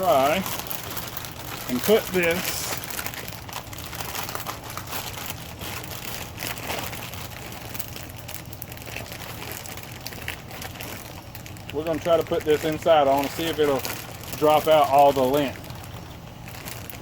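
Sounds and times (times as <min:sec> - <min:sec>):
plastic vent hose crinkling: 0:00.0 - 0:17.0.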